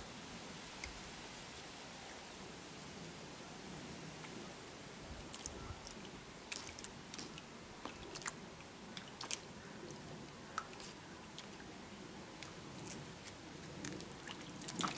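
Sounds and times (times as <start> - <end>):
faint steady hiss: 0.0 - 14.9.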